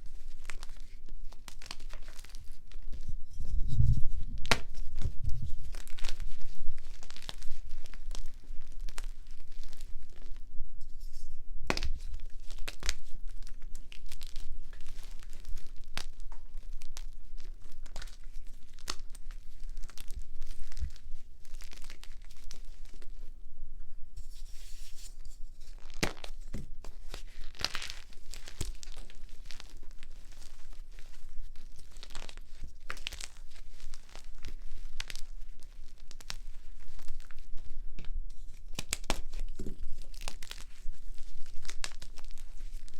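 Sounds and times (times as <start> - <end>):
chalk crunching and crackling: 0.0 - 23.3, 24.2 - 42.9.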